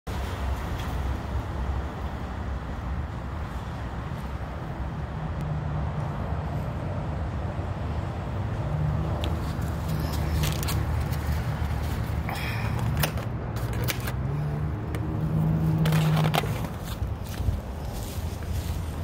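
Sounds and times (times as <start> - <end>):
low rumble of road traffic: 0.1 - 19.0.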